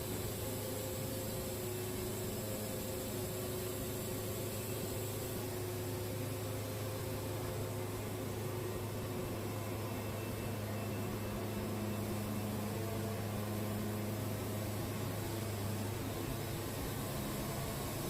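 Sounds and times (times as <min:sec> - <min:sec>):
sawmill engine humming: 0:00.1 - 0:18.0.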